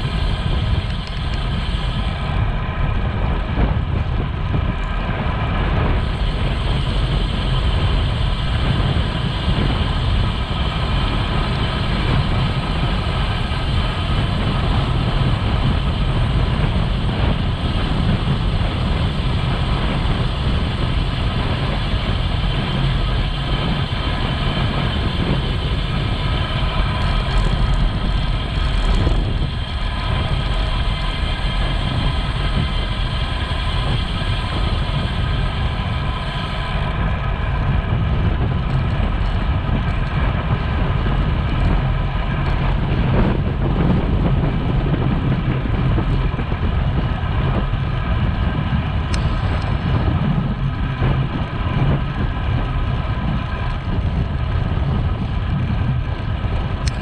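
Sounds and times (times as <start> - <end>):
bicycle road noise: 0.0 - 57.0
wind rushing over microphone: 0.0 - 57.0.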